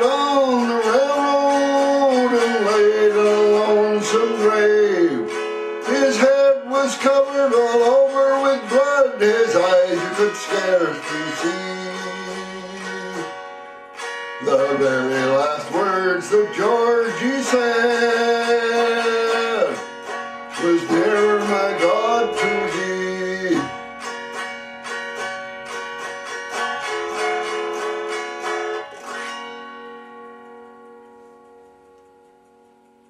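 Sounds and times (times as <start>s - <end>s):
man singing folk song: 0.0s - 29.6s
plucked string chords: 0.0s - 33.0s.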